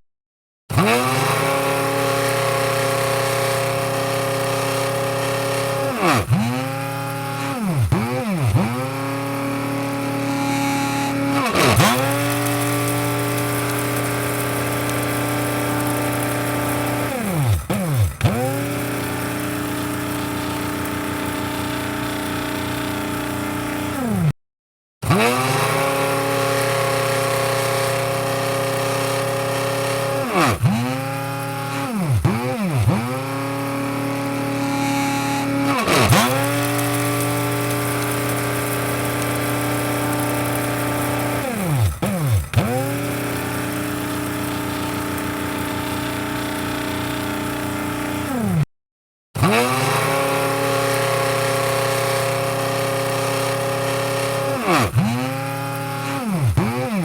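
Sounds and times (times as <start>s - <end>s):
coffee grinder motor whining: 0.7s - 24.3s, 25.0s - 48.7s, 49.4s - 57.0s.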